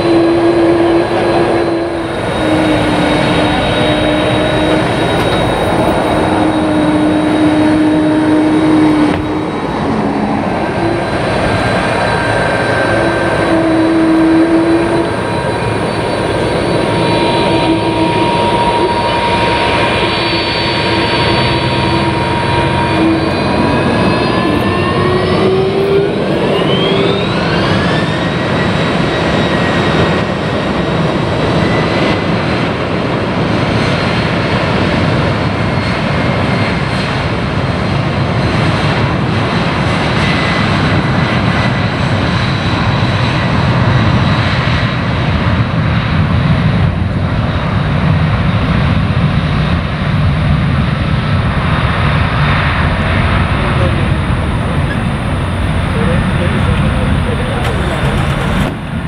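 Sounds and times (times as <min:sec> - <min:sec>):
jet engines spooling up: 0:00.0 - 0:59.0
jet roar: 0:00.0 - 0:59.0.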